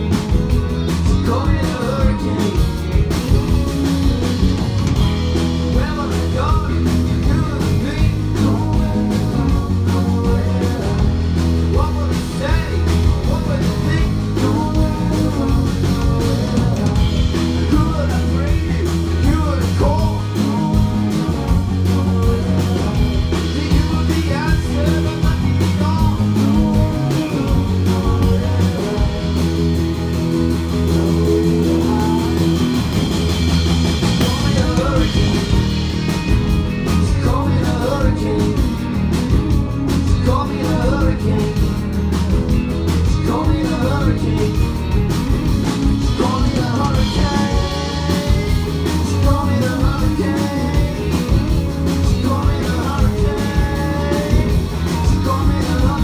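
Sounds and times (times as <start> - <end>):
man singing: 0.0 - 33.3, 34.0 - 56.0
bass line: 0.0 - 56.0
electric guitar: 0.0 - 56.0
keyboards: 0.0 - 56.0
steady drum beat: 0.0 - 56.0.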